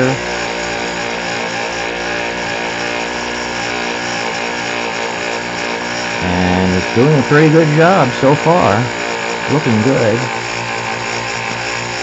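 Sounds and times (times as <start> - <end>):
impeller churning water: 0.0 - 12.0
small electric motor whirring: 0.0 - 12.0.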